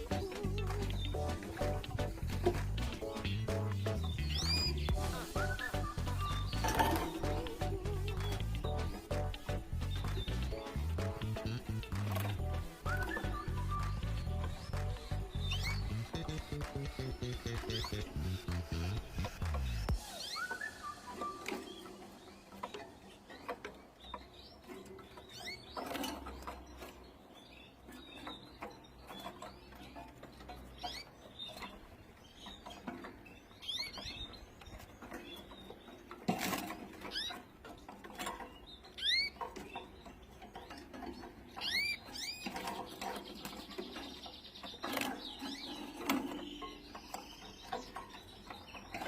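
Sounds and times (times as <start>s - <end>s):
canary chirping: 0.0s - 49.0s.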